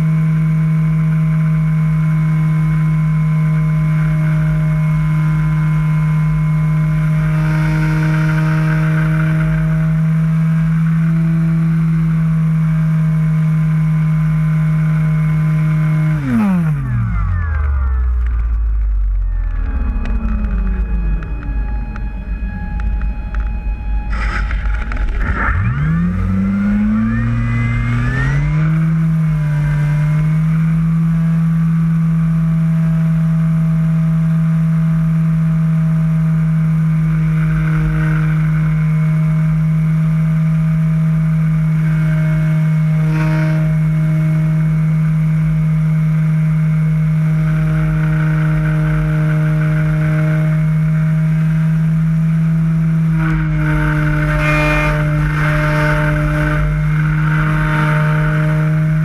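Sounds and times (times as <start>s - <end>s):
model plane motor and propeller: 0.0s - 32.0s, 34.1s - 59.0s.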